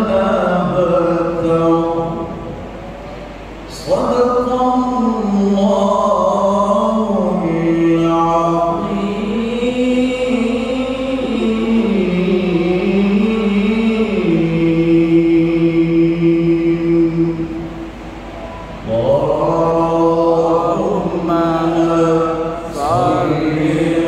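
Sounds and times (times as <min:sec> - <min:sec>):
man reciting melodically into microphone: 0:00.0 - 0:02.5, 0:03.7 - 0:17.6, 0:18.8 - 0:24.0.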